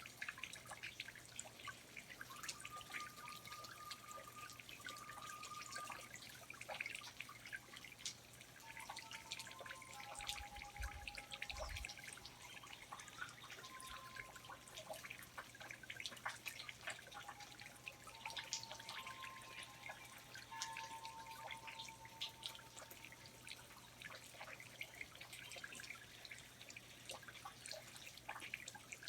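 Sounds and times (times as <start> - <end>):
water dripping: 0.0 - 29.0.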